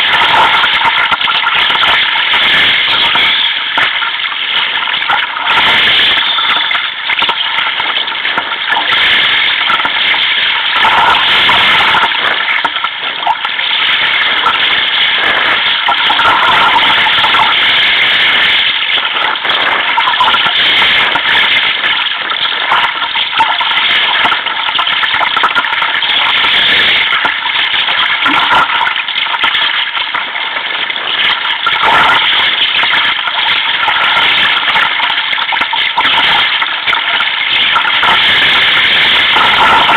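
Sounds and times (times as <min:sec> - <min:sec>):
choppy sea water: 0:00.0 - 0:39.9.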